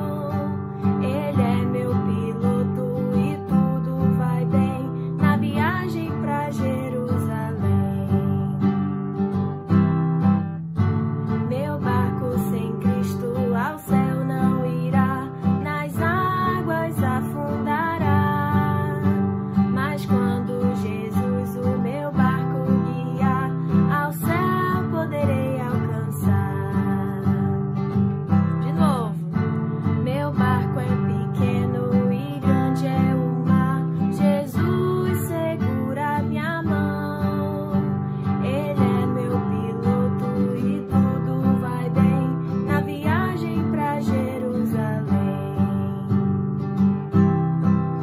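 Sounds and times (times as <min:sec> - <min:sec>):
woman singing: 0:00.0 - 0:09.7, 0:11.1 - 0:48.0
acoustic guitar strumming: 0:00.0 - 0:48.0.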